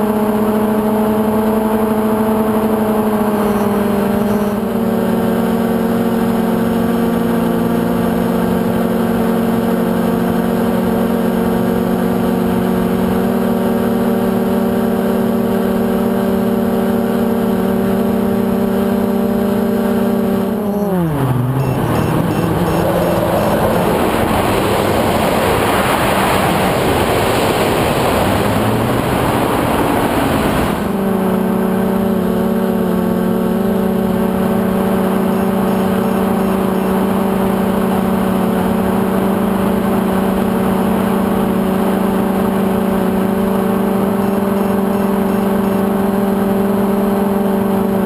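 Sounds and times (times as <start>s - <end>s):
quadcopter propellers whirring: 0.0s - 48.0s.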